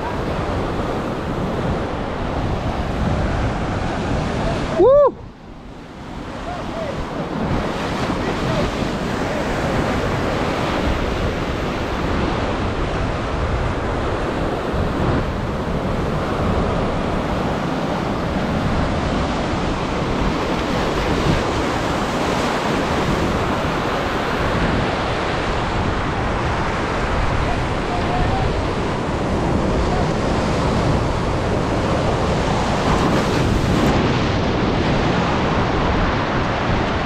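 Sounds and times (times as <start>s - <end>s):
ocean surf breaking on rocks: 0.0s - 37.0s.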